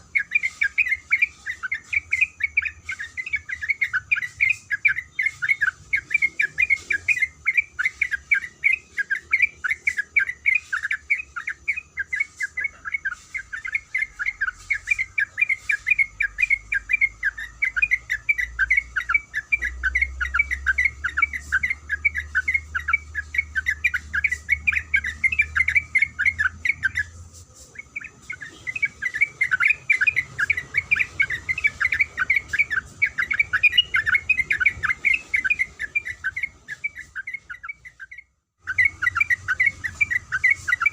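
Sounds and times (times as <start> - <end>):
bulbul chattering call: 0.0 - 40.9.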